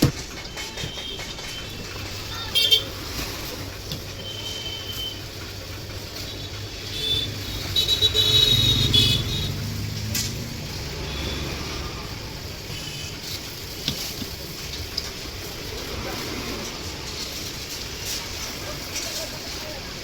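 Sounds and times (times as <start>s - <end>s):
road traffic: 0.0s - 20.0s
vehicle engine: 0.0s - 20.0s.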